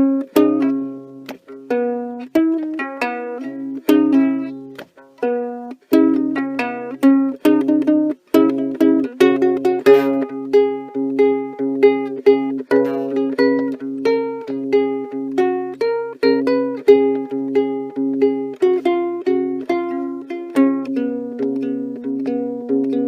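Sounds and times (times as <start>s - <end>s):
ukulele fingerpicked: 0.0s - 23.0s.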